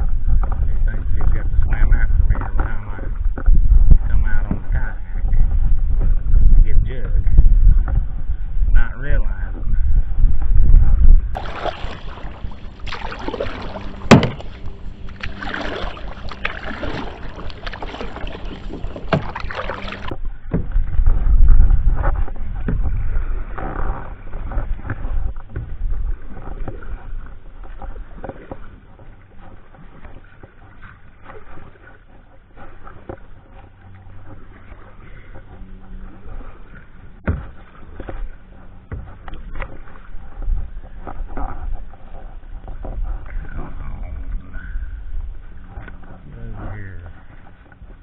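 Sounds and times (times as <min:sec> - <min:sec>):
paddle knocking against hull: 0:00.0 - 0:08.2, 0:09.5 - 0:44.4
paddle strokes in water: 0:00.0 - 0:08.8, 0:09.5 - 0:48.0
low microphone rumbles: 0:00.0 - 0:30.1, 0:32.2 - 0:48.0.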